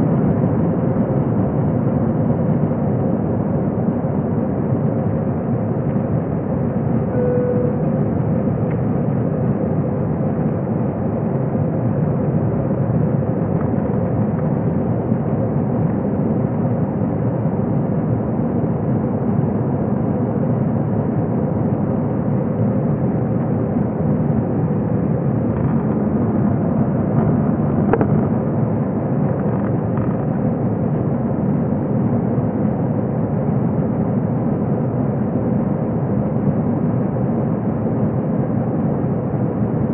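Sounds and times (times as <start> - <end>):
jet engines in aircraft cabin: 0.0 - 39.9.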